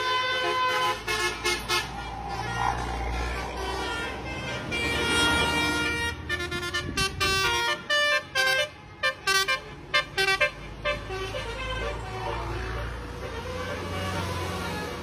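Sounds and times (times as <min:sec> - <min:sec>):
multi-tone bus horn tune: 0:00.0 - 0:15.0.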